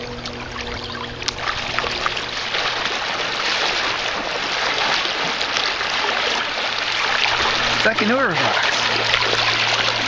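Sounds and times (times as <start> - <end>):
dog splashing through water: 0.0 - 10.0.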